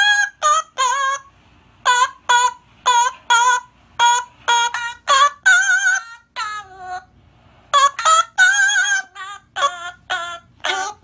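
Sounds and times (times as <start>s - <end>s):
parrot singing: 0.0s - 7.1s, 7.7s - 11.0s
recorded parrot singing from tablet: 0.0s - 7.1s, 7.7s - 11.0s.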